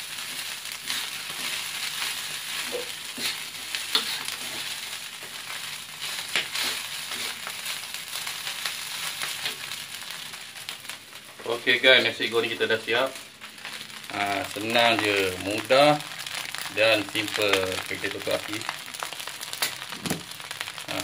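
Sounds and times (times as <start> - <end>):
rice sizzling in a wok: 0.0 - 21.0.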